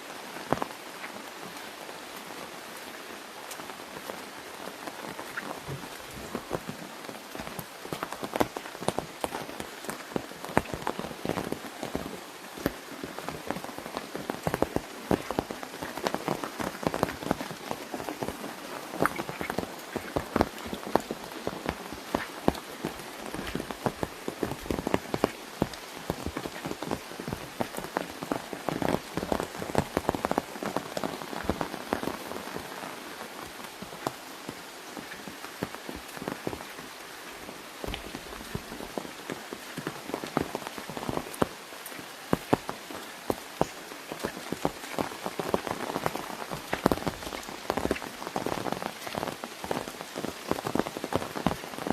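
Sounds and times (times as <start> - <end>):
rain hissing: 0.0 - 51.9
raindrops hitting umbrella: 0.0 - 51.9.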